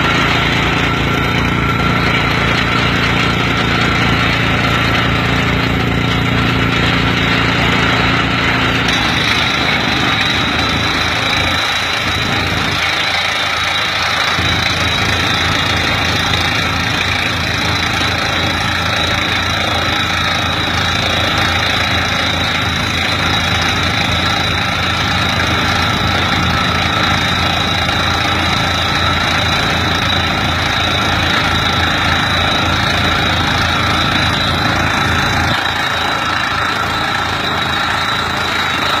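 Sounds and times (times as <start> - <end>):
tractor engine rumbling: 0.0 - 39.0.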